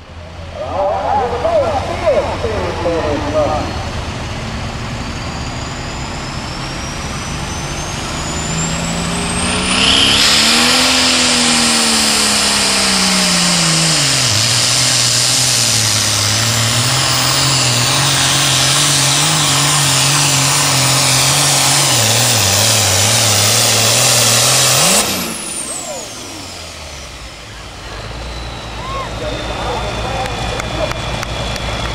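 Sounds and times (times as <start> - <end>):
tractor diesel engine revving: 0.0 - 31.9
turbo whine: 0.0 - 31.9.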